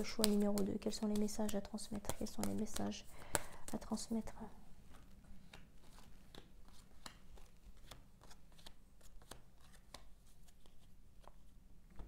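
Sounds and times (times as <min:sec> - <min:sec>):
cards being shuffled: 0:00.0 - 0:03.9, 0:04.9 - 0:12.0.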